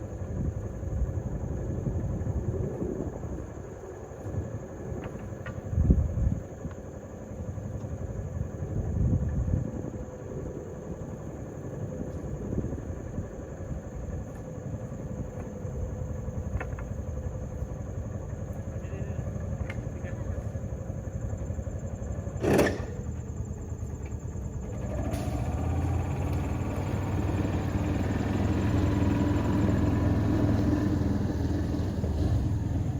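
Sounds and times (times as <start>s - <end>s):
vehicle engine running at low speed: 0.0s - 32.9s.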